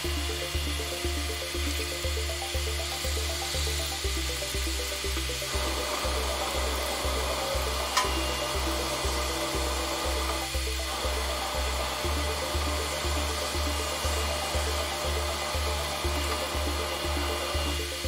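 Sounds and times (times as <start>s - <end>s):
background music with bass pulse: 0.0s - 18.0s.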